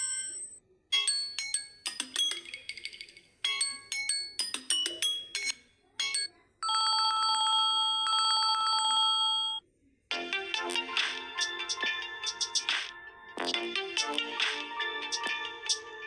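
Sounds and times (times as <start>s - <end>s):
chime-like ringtone melody: 0.0s - 9.6s, 10.2s - 16.0s.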